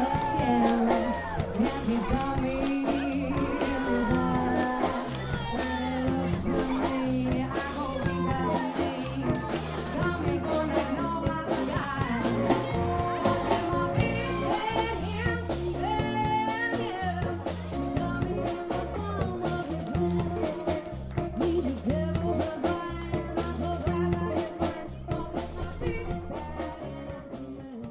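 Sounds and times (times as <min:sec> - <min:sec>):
person singing: 0:00.0 - 0:27.9
rock and roll band music: 0:00.0 - 0:27.9.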